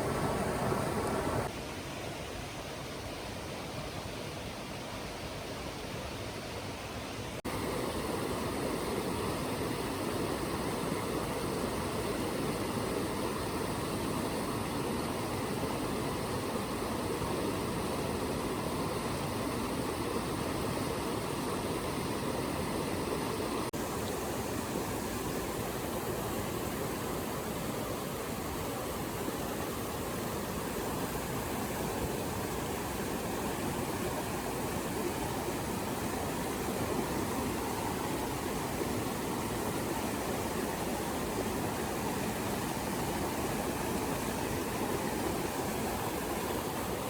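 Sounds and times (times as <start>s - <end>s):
flowing water rushing: 0.0s - 47.0s.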